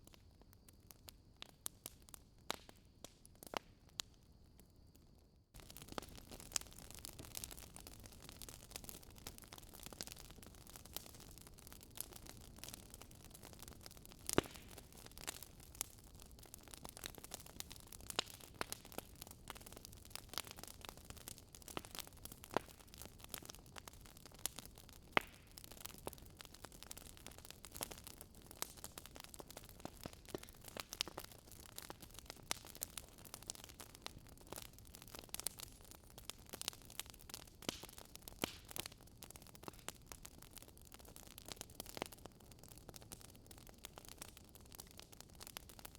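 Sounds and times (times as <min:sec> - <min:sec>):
wood fire crackling: 0:00.0 - 0:04.2, 0:05.6 - 0:45.9.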